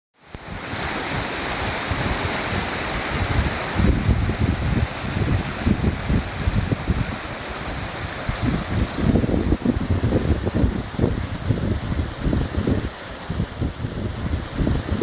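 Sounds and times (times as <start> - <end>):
flowing water rushing: 0.2 - 15.0
wind buffeting microphone: 0.3 - 15.0.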